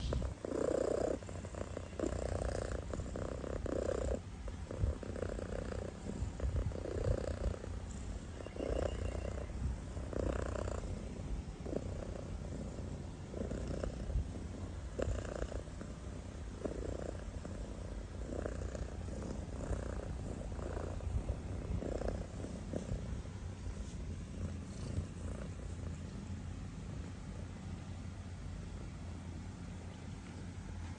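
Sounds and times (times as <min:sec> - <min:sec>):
kitten snoring: 0:00.0 - 0:27.1
low steady rumble: 0:00.0 - 0:30.9.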